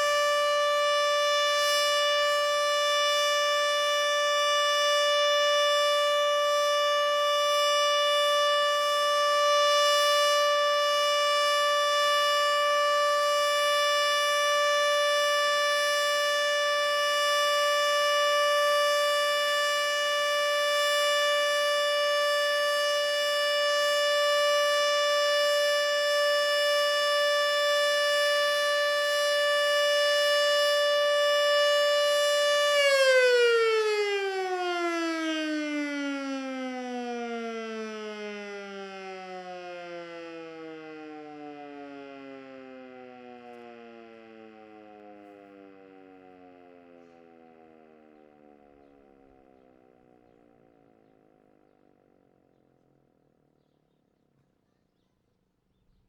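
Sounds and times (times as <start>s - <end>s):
warning siren steady tone: 0.0s - 53.4s.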